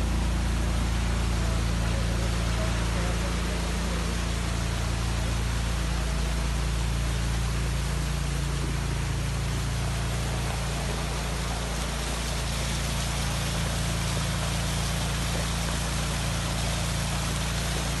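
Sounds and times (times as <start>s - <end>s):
constant low hum: 0.0s - 18.0s.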